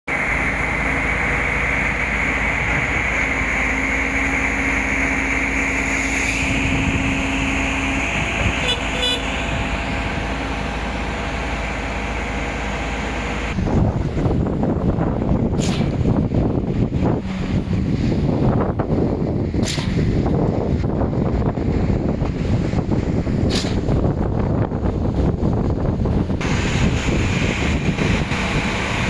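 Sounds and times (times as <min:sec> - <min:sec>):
wind buffeting microphone: 0:00.1 - 0:12.6, 0:13.2 - 0:29.0
concrete pouring machine droning: 0:00.1 - 0:29.0.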